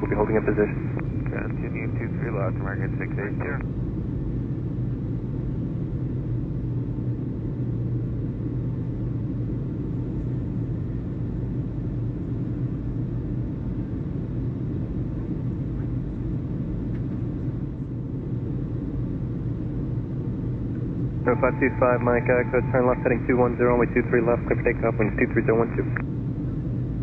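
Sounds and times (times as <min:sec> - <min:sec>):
constant low hum: 0:00.0 - 0:27.0
steady low rumble: 0:00.0 - 0:27.0.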